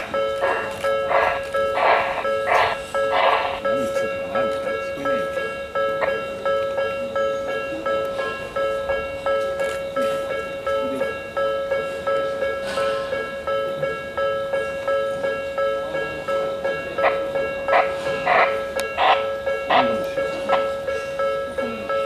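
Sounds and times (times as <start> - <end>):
level crossing warning bell: 0.0 - 22.0.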